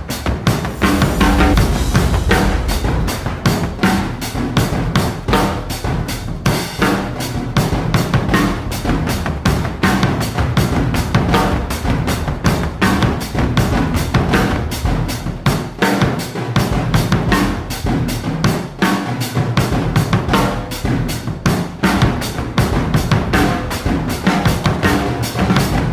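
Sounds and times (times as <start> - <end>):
music with driving drum beat: 0.0 - 25.9.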